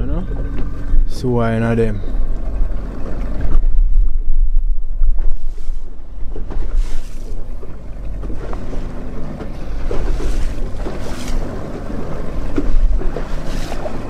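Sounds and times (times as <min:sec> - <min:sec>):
outboard motor running: 0:00.0 - 0:14.0
water slapping against hull: 0:00.0 - 0:14.0
wind buffeting microphone: 0:00.0 - 0:14.0.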